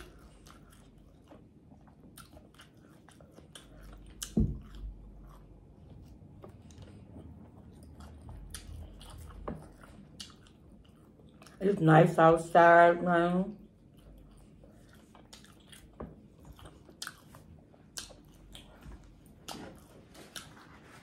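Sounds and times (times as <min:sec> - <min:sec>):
chewing and lip smacking: 0:00.0 - 0:11.6, 0:13.5 - 0:21.0.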